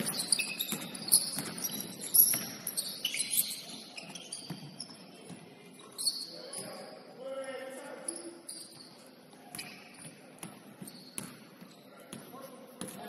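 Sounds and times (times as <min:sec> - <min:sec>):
shoes squeaking on gym floor: 0:00.0 - 0:07.0, 0:08.0 - 0:12.2.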